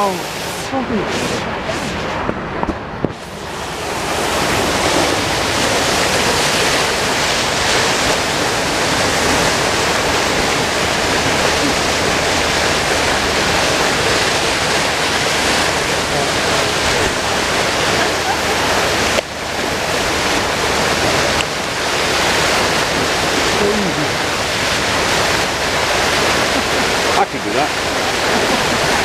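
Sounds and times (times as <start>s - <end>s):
rushing water: 0.0s - 29.0s
wind on microphone: 0.0s - 29.0s.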